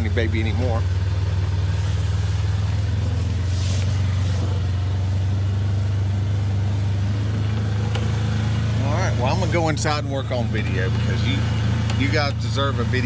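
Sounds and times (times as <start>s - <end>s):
utility vehicle engine droning: 0.0s - 13.0s.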